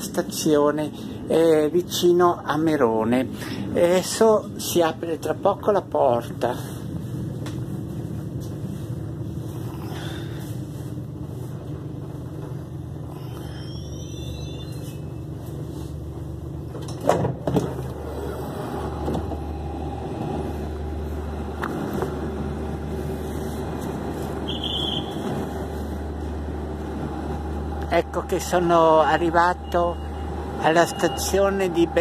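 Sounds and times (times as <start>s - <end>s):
train engine humming: 0.0s - 32.0s.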